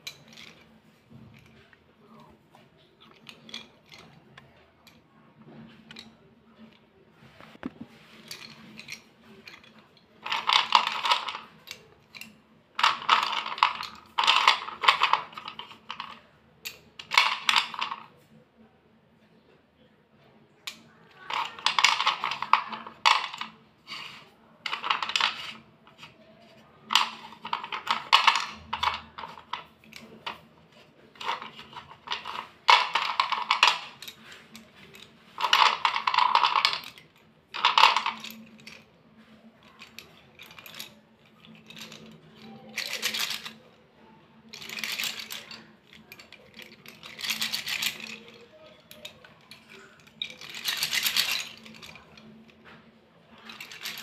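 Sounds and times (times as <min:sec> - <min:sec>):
slate pencils clattering together: 0:00.0 - 0:06.8, 0:07.4 - 0:18.2, 0:20.7 - 0:43.8, 0:44.4 - 0:54.0.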